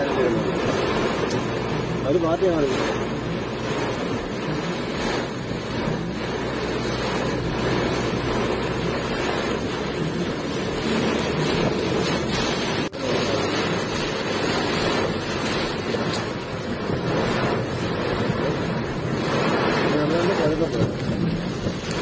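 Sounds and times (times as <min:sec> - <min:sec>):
heavy rain: 0:00.0 - 0:22.0
strong wind gusts: 0:00.0 - 0:22.0.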